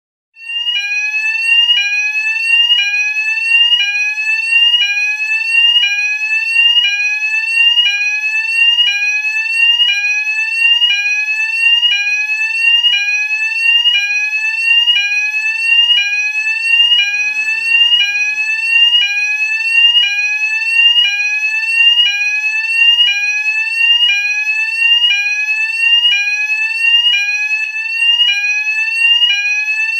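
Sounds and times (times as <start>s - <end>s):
fire alarm rising tone: 0.4s - 29.9s.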